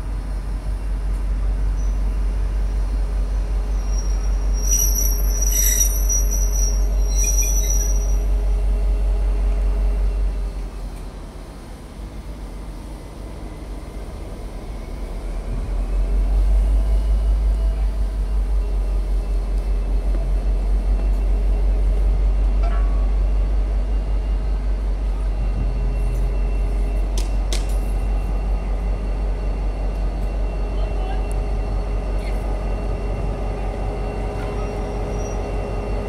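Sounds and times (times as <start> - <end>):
heavy vehicle rumble: 0.0 - 36.0.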